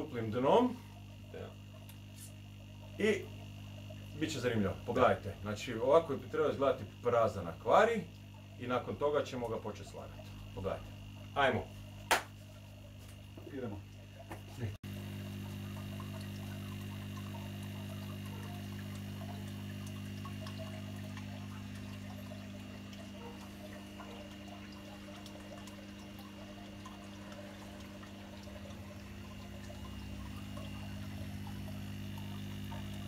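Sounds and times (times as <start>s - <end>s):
aquarium pumps humming: 0.0s - 33.0s
water trickling and splashing: 0.0s - 33.0s.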